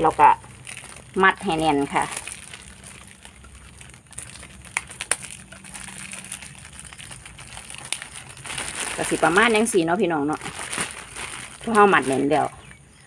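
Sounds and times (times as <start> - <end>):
plastic bags crinkling: 0.0 - 12.8.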